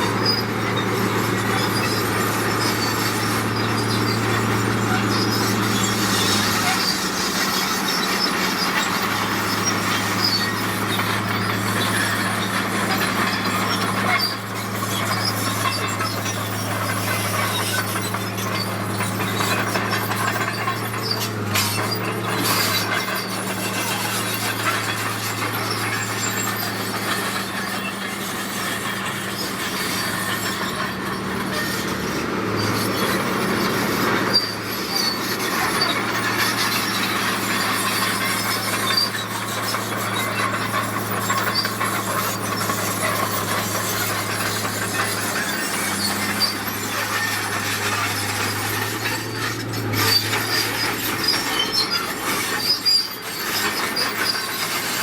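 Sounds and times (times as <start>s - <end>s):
bulldozer diesel engine running: 0.0s - 55.0s
crawler tracks squealing and grinding: 0.0s - 55.0s.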